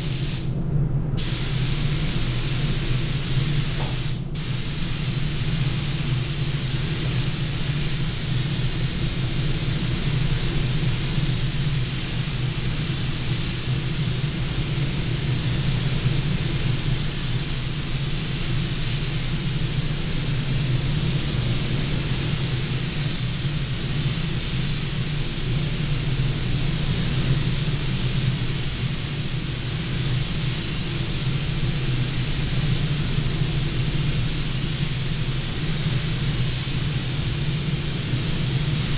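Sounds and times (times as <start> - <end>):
spray gun hissing: 0.0 - 0.5, 1.2 - 38.9
steady low hum: 0.0 - 38.9.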